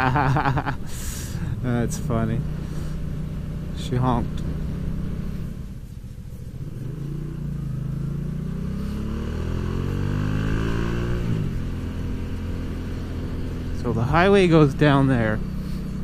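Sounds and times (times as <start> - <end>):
motorcycle engine accelerating: 1.4 - 16.0.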